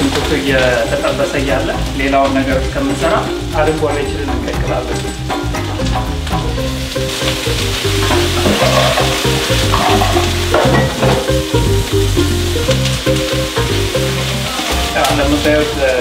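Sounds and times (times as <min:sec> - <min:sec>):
background music with bass line: 0:00.0 - 0:16.0
onions sizzling in a pan: 0:00.0 - 0:16.0.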